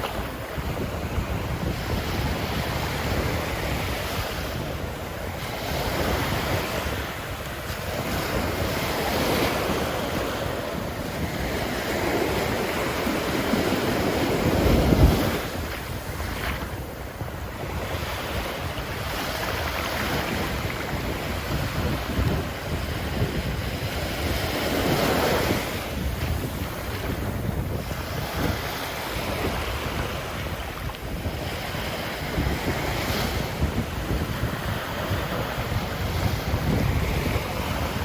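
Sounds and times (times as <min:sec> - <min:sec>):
ocean surf breaking on beach: 0:00.0 - 0:38.0
wind rumbling on microphone: 0:00.0 - 0:38.0.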